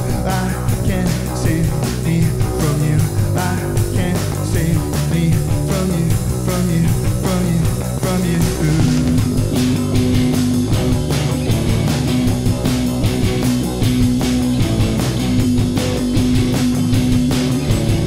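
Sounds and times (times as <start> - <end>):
bass: 0.0 - 18.0
drums with steady beat: 0.0 - 18.0
electric guitar: 0.0 - 18.0.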